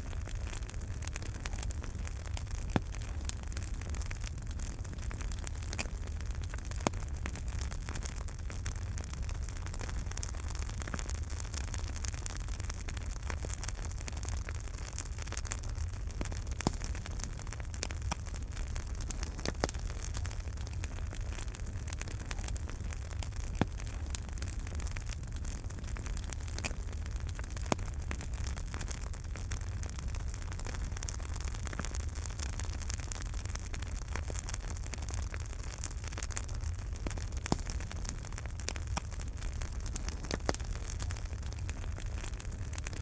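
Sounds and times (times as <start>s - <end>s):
fire popping: 0.0s - 43.0s
wood fire crackling: 0.0s - 43.0s.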